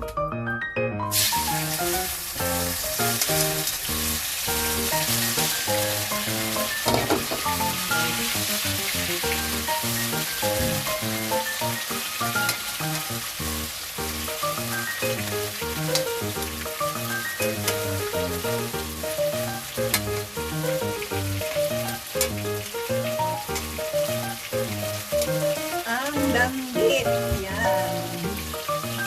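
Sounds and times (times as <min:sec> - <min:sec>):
fish sizzling in hot oil: 0:01.1 - 0:29.0.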